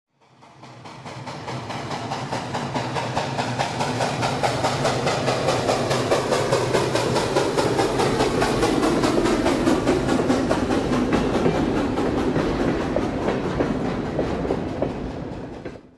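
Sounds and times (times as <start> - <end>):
train wheels clicking over rail joints: 0.2 - 15.9.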